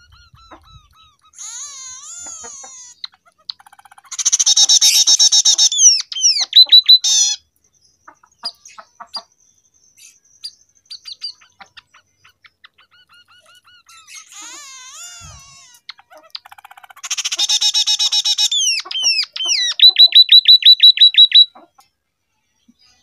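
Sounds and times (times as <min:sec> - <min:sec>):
bird singing trills and whistles: 0:00.0 - 0:21.6.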